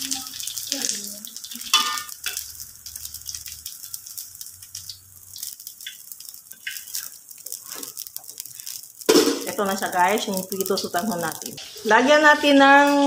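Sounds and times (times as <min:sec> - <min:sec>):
noodles sizzling in hot oil: 0:00.0 - 0:13.0.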